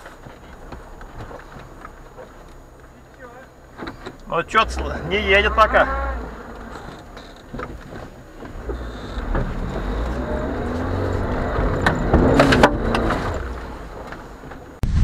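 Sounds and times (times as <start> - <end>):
car engine straining: 0.0 - 14.9.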